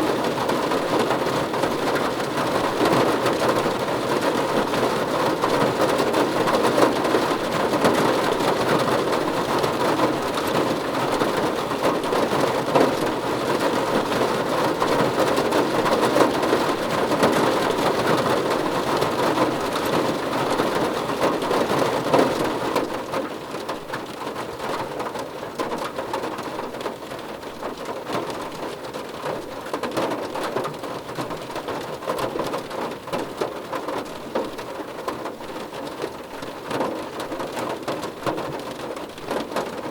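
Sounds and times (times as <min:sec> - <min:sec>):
rain drumming on a car roof: 0:00.0 - 0:39.9.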